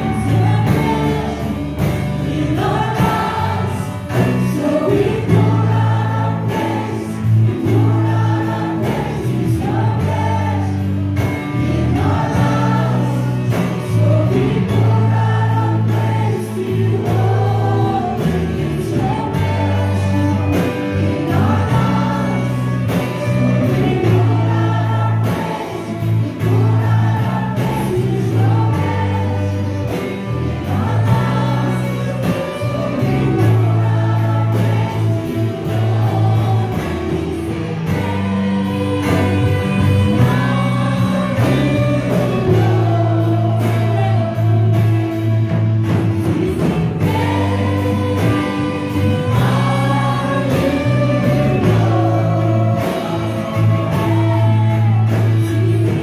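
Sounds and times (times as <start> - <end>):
worship band and singers: 0.0 - 56.0.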